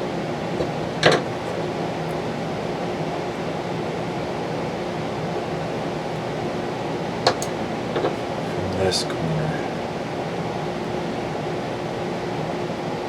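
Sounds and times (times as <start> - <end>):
mechanical room hum: 0.0 - 13.0.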